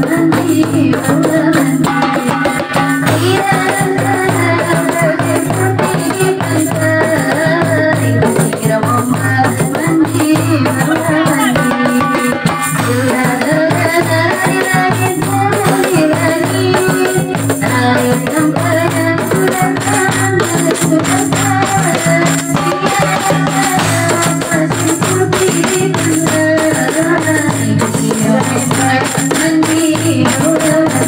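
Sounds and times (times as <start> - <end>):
hand drums: 0.0 - 31.0
jingling tambourines: 0.0 - 31.0.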